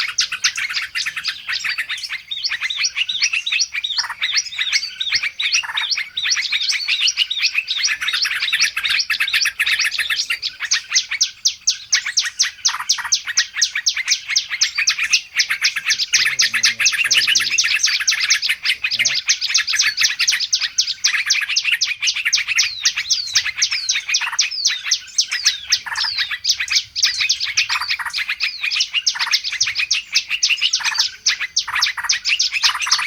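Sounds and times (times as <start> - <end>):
songbirds chirping rapidly: 0.0 - 33.0.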